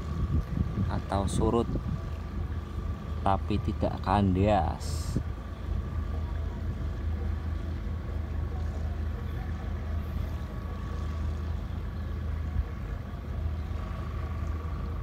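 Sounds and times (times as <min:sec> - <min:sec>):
boat diesel engine chugging: 0:00.0 - 0:15.0.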